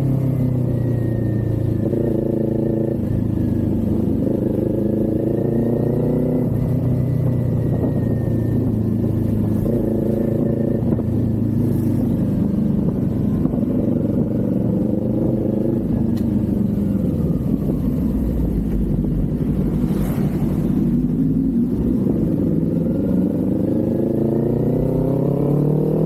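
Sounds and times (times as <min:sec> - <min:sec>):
motorcycle engine and exhaust: 0:00.0 - 0:26.0.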